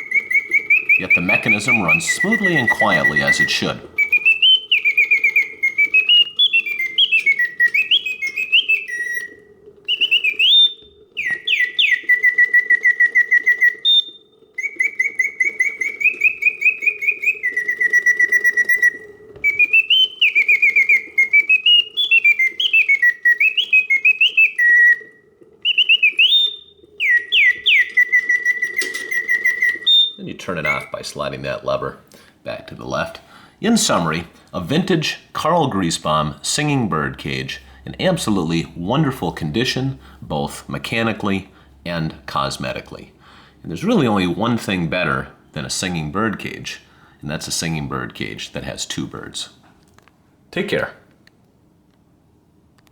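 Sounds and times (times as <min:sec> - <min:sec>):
mechanical bird whistling birdsong: 0:00.0 - 0:49.6
faint steady hum: 0:00.0 - 0:52.9.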